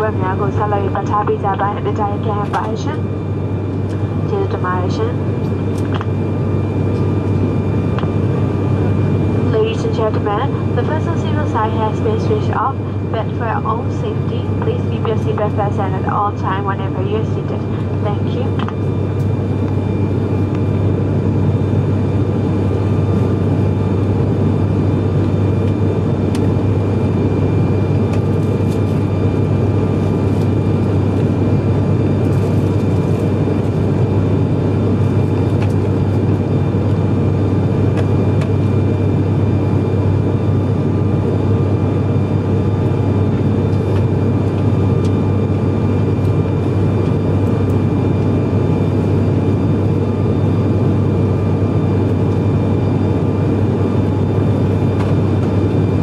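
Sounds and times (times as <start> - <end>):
high engine whine: 0.0 - 56.0
propeller hum in cabin: 0.0 - 56.0.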